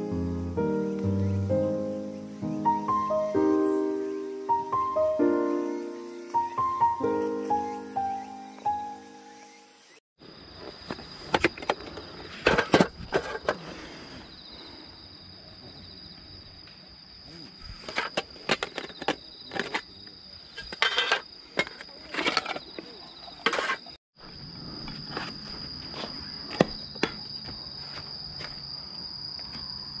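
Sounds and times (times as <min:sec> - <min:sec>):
insects calling: 0:00.0 - 0:30.0.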